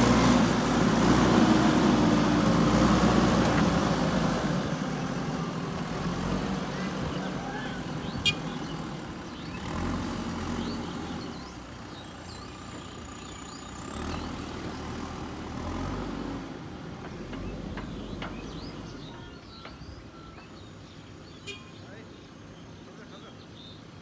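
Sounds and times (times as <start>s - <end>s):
diesel engine running: 0.0s - 23.2s
birds chirping: 1.7s - 24.0s.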